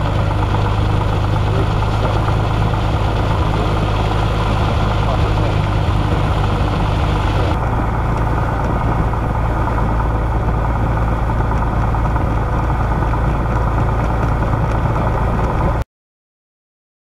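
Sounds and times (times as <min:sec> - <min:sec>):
propeller aircraft engine drone: 0:00.0 - 0:15.8.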